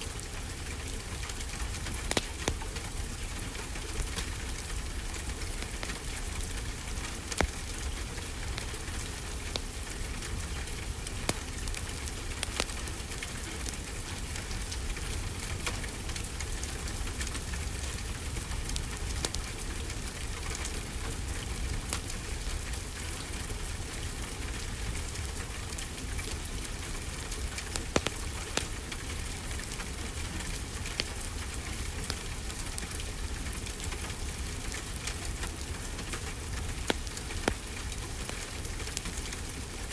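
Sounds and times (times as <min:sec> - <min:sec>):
steady rainfall: 0:00.0 - 0:39.9
wood fire crackling: 0:00.0 - 0:39.9.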